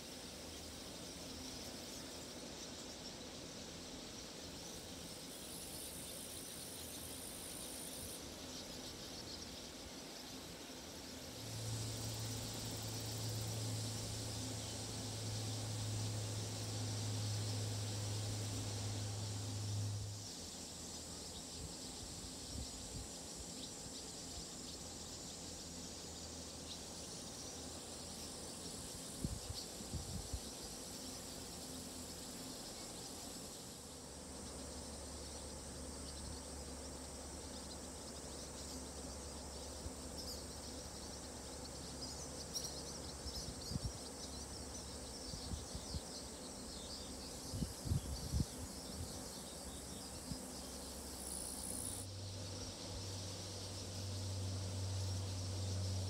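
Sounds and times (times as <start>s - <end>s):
insects shrill drone: 0.0s - 56.0s
short high insect chirps: 0.0s - 56.0s.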